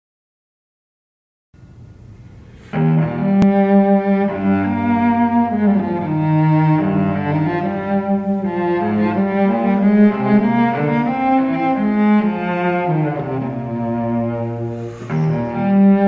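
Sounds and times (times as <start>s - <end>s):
slow cello and string music: 2.5s - 16.0s.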